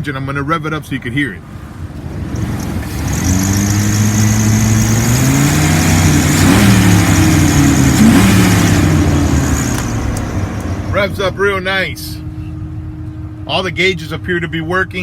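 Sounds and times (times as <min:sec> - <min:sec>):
truck engine revving: 0:01.4 - 0:13.5.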